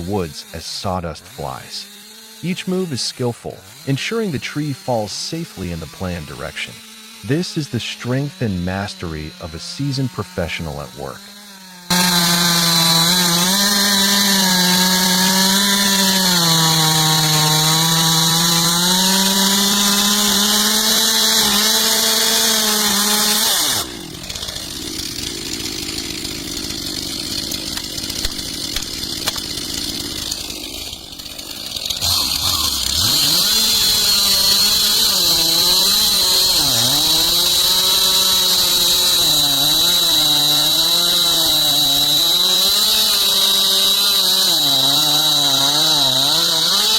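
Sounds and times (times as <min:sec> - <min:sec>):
chainsaw cutting at high revs: 0:00.0 - 0:46.9.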